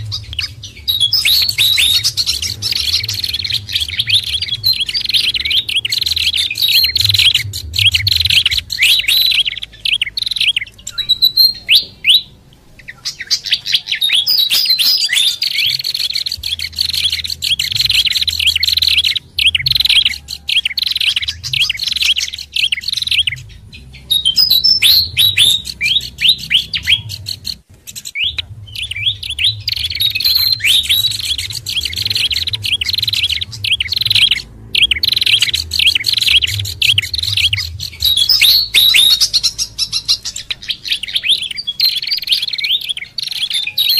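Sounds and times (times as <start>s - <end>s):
songbirds chirping and chattering: 0.0s - 43.9s.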